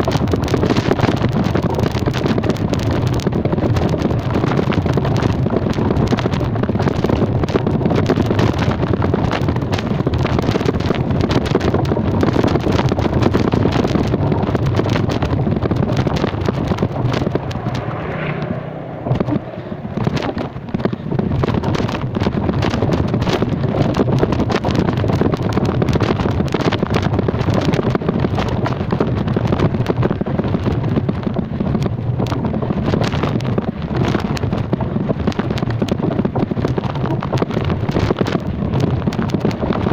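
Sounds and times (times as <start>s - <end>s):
engine and road noise: 0.0s - 39.9s
wind buffeting microphone: 0.0s - 39.9s.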